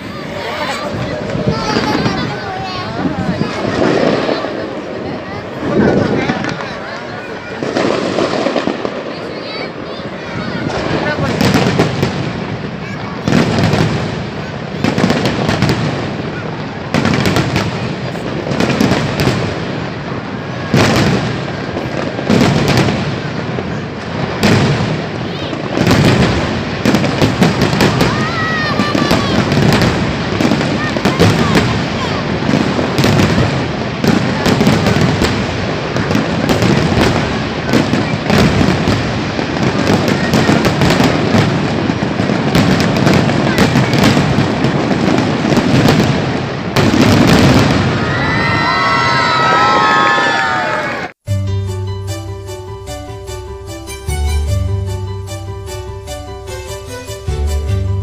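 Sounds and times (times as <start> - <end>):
fireworks bangs with crackle: 0.0 - 58.0
fireworks bursting: 0.0 - 58.0.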